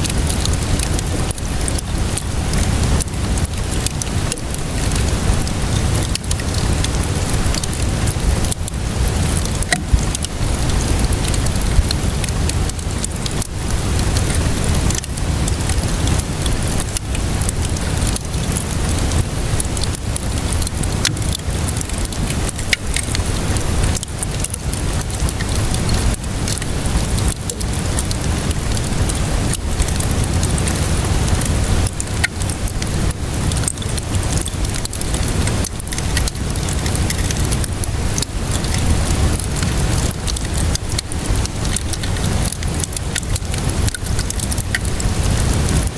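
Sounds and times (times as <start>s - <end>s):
rainfall hiss: 0.0s - 45.9s
wood fire crackling: 0.0s - 45.9s.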